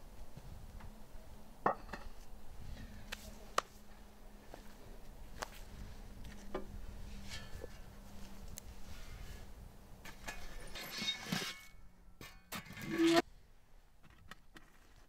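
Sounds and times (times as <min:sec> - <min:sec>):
low steady hum: 0:00.0 - 0:14.1.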